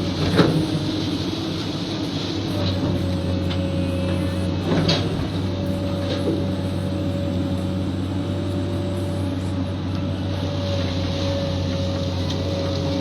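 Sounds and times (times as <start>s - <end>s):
excavator engine droning: 0.0s - 13.0s.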